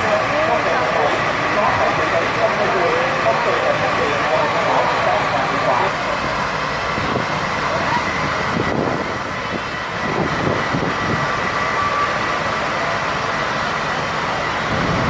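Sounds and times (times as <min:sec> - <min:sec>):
large vehicle engine running: 0:00.0 - 0:15.0.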